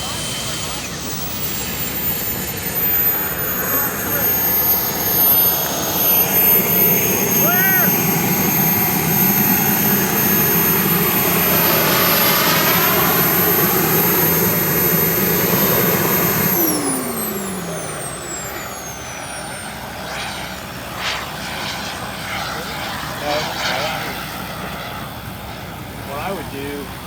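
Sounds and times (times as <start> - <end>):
model jet turbine whine: 0.0 - 27.0.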